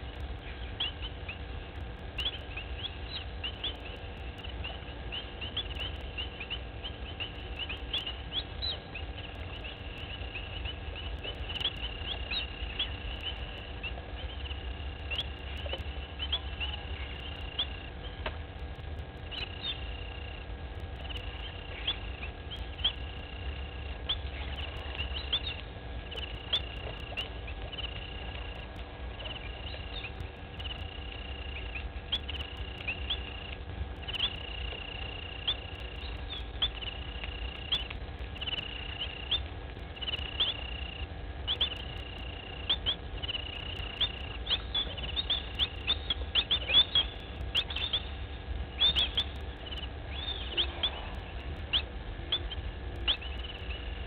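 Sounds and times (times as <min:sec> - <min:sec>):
buzzy animal call with chirp: 0:00.0 - 0:18.2, 0:19.2 - 0:54.0
faint steady hum: 0:00.0 - 0:54.0.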